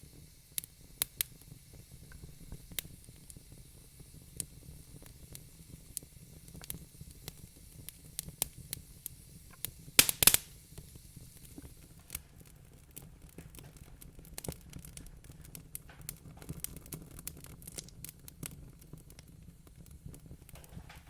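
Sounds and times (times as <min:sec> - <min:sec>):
faint fire hiss: 0:00.0 - 0:21.0
wood fire crackling and popping: 0:00.0 - 0:21.0.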